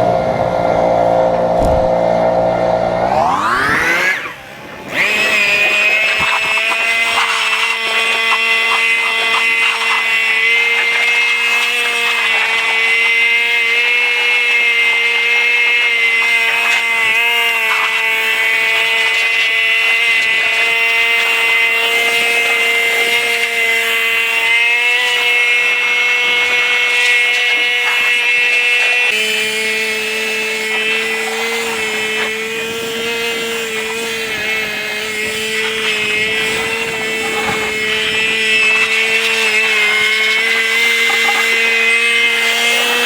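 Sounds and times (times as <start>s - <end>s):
combine harvester drone and whine: 0.0s - 43.0s.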